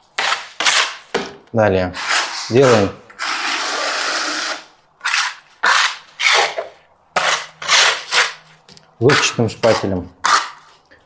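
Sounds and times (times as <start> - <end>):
steel trowel scraping adhesive: 0.2 - 1.1, 2.0 - 10.8.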